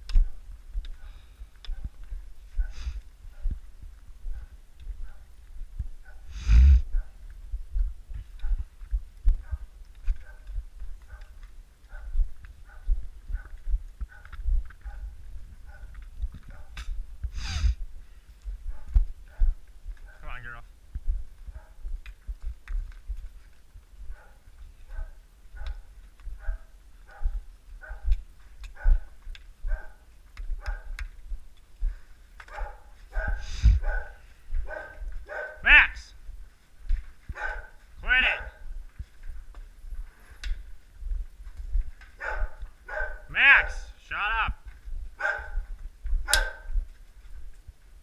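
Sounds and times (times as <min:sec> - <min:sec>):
footsteps on frozen ground: 0:00.0 - 0:48.0.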